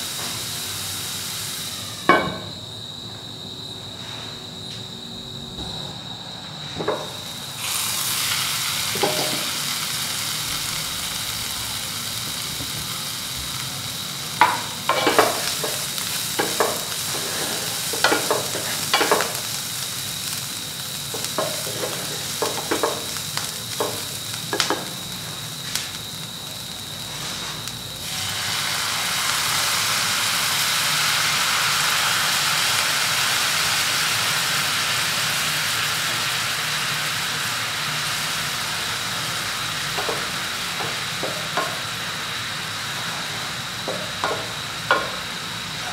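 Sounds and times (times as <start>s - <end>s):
onions sizzling in a pan: 0.0s - 3.1s, 6.6s - 45.9s.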